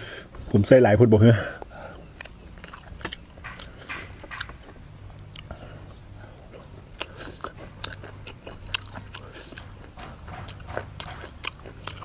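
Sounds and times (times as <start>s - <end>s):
person chewing: 2.0s - 12.0s.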